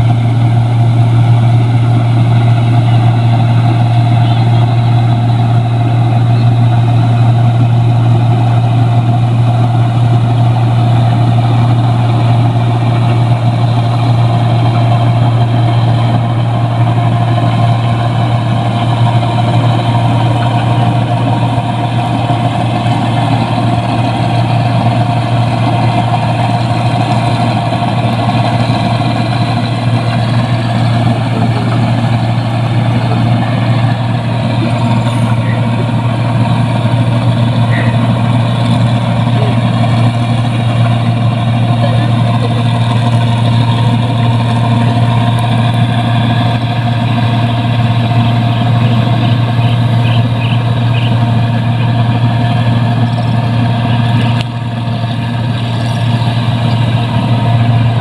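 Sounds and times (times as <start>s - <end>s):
combine harvester engine humming: 0.0s - 58.0s.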